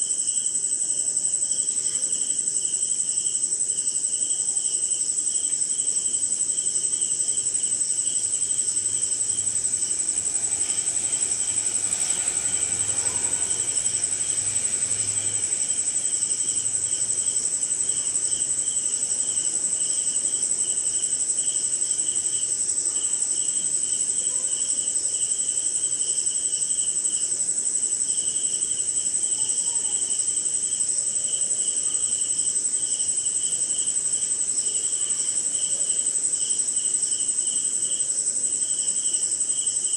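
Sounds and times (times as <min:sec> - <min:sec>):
crickets trilling: 0:00.0 - 0:39.9
pulsing insect chirp: 0:00.0 - 0:39.9.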